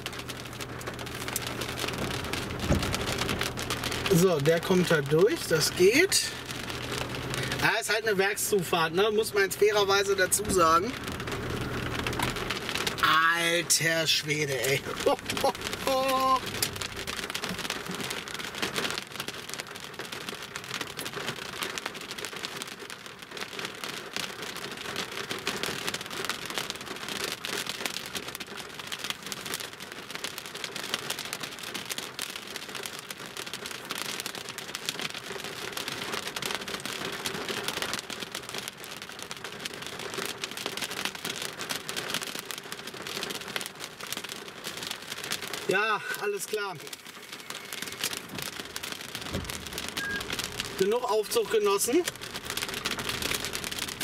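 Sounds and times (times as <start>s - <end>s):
rain pattering on a car: 0.0s - 54.0s.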